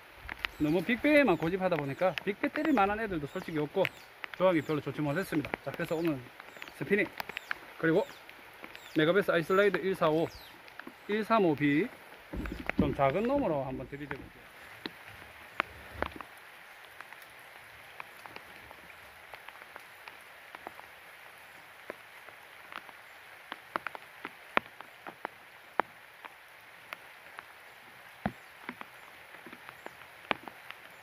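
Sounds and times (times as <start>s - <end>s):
heavy rain falling on water: 0.0s - 31.0s.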